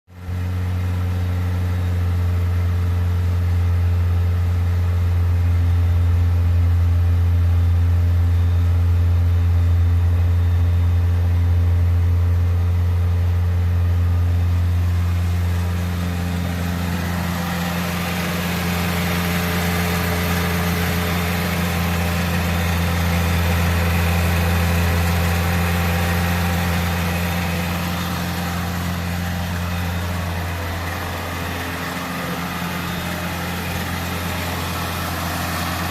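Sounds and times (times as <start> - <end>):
car engine idling: 0.1 - 35.9.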